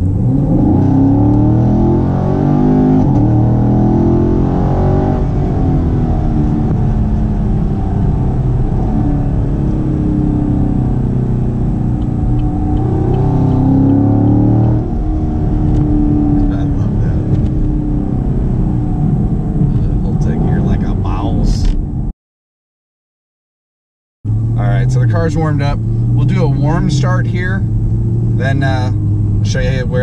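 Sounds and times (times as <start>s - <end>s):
car engine at full throttle: 0.0s - 22.1s, 24.3s - 30.0s.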